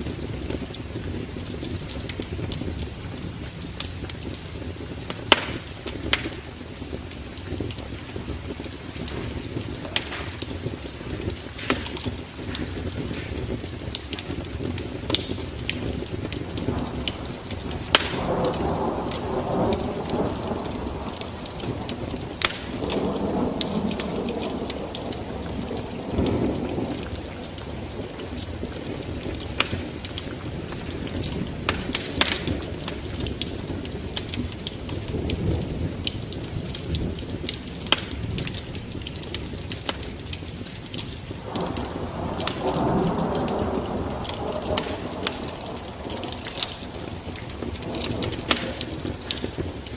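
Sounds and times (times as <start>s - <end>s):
fire popping: 0.0s - 49.9s
wood fire crackling: 0.0s - 49.9s.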